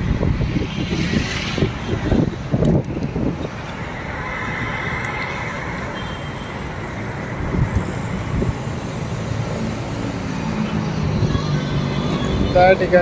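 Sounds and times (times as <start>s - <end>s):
heavy vehicle engine hum: 0.0s - 13.0s
highway traffic rushing: 0.0s - 13.0s.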